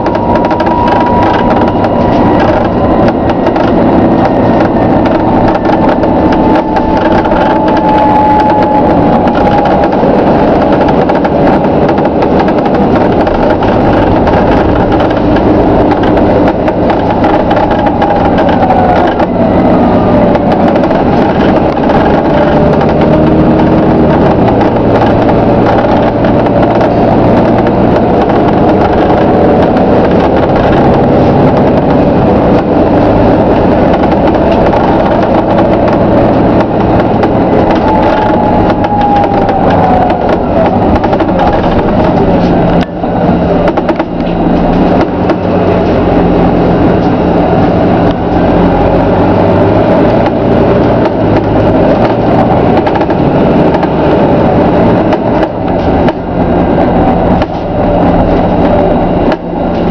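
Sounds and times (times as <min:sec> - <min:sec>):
bus body creaking: 0:00.0 - 0:59.9
bus drivetrain and road noise: 0:00.0 - 0:59.9
bus whine rising and falling: 0:00.0 - 0:59.9.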